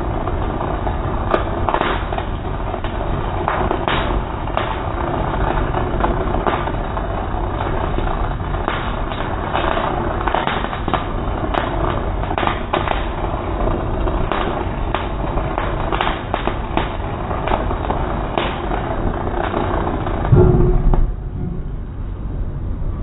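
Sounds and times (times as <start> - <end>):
welding arc crackling and hissing: 0.0 - 20.3
sharp welding pops: 0.0 - 21.9.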